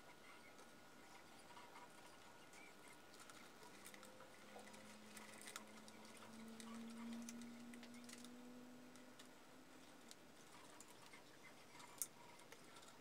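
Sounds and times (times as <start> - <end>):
faint low hum: 0.0 - 13.0
wires clicking and rustling: 1.9 - 13.0.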